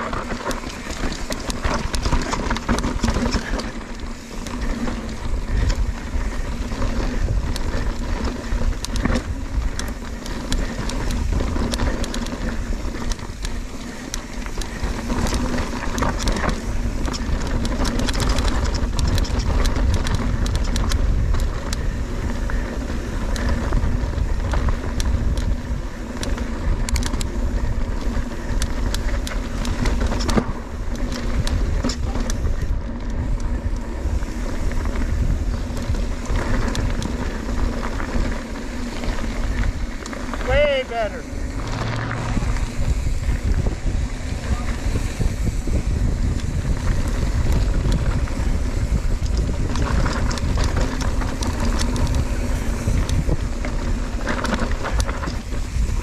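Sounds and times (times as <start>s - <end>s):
bike clattering over rocks: 0.0s - 56.0s
wind buffeting microphone: 0.0s - 56.0s.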